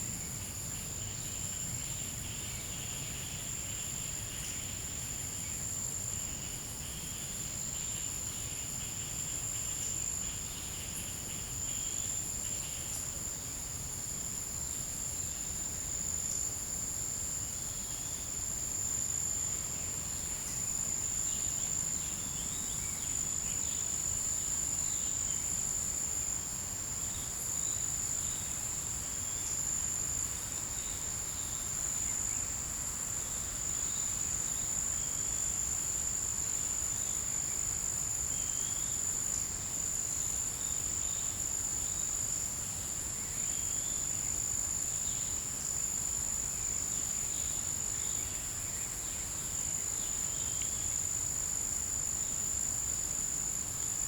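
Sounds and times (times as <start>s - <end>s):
insect high-pitched trill: 0.1s - 54.0s.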